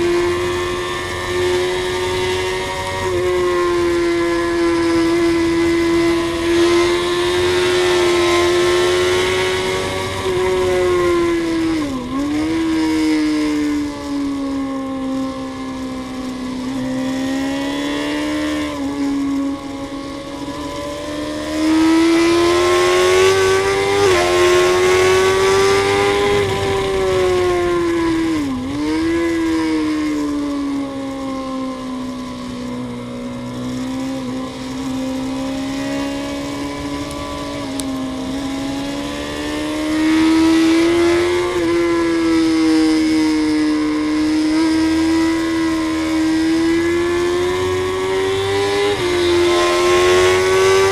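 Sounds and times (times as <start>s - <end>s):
motorcycle engine at high revs: 0.0s - 50.9s.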